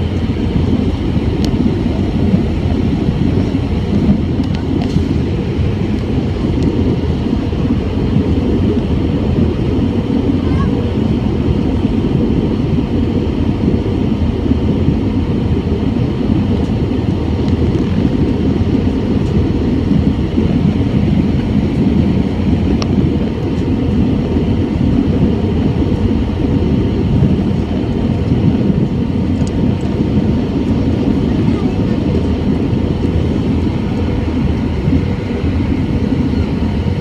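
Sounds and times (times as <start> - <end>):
airplane cabin engine and airflow roar: 0.0 - 37.0.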